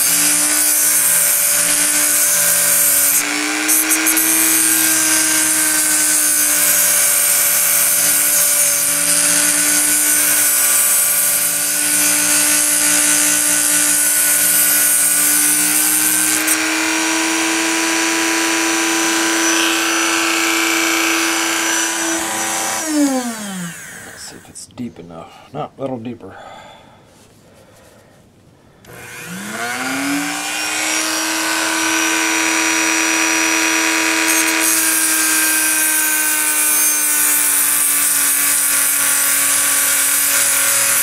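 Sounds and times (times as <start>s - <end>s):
rotary tool cutting porcelain: 0.0s - 24.4s, 28.9s - 41.0s.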